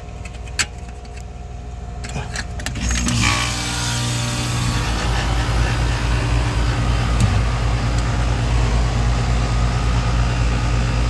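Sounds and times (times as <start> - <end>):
condenser fan rushing: 0.0 - 11.0
heat pump compressor hum: 0.0 - 11.0.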